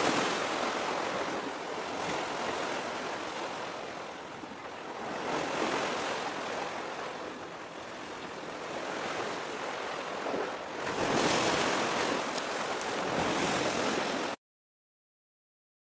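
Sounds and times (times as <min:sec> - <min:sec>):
sea waves washing: 0:00.0 - 0:14.4
wind: 0:00.0 - 0:14.4.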